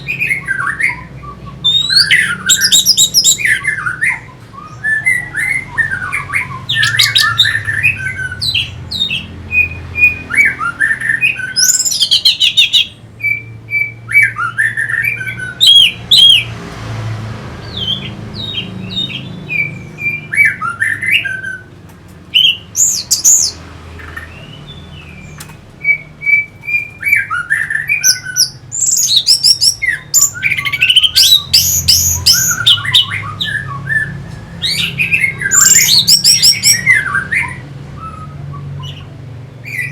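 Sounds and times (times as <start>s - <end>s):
thrush singing whistled phrases: 0.0s - 16.5s, 17.7s - 21.7s, 24.3s - 39.9s.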